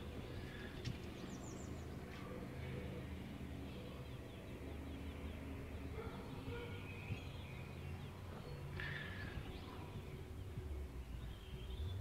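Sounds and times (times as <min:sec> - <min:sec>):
low steady rumble: 0:00.0 - 0:12.0
small birds chirping: 0:00.0 - 0:12.0.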